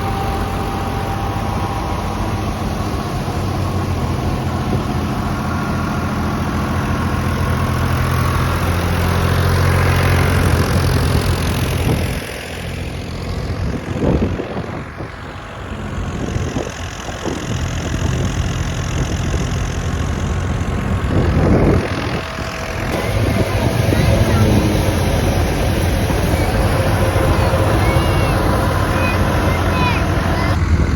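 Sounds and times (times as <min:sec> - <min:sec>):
threshing machine engine hum: 0:00.0 - 0:30.9.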